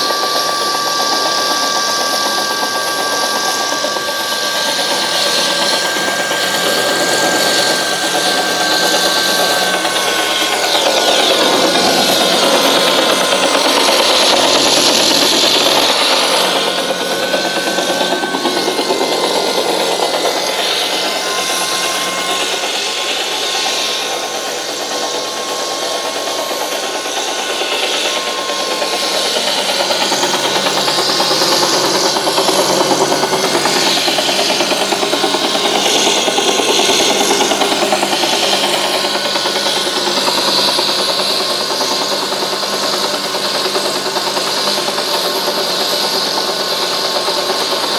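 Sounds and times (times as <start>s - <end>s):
thin whine: 0.0s - 46.8s
helicopter turbine and rotor chop: 0.0s - 47.9s.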